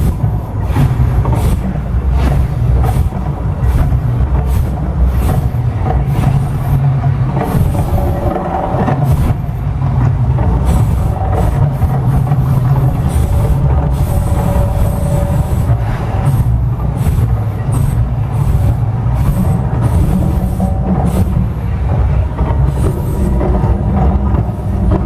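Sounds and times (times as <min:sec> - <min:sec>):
deep steady rumble: 0:00.0 - 0:25.0
gas flames bursting: 0:00.0 - 0:25.0.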